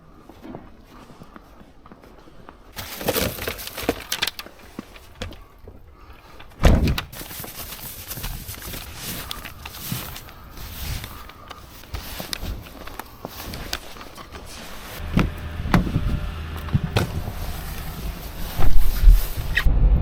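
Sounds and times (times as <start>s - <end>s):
footsteps crunching through snow: 0.1s - 6.4s, 7.1s - 19.7s.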